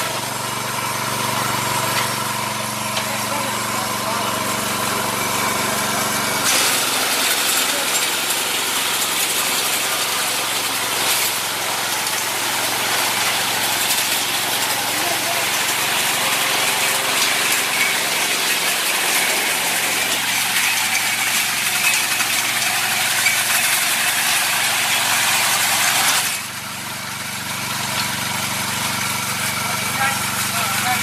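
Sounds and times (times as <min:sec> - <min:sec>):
small petrol engine running: 0:00.0 - 0:31.0.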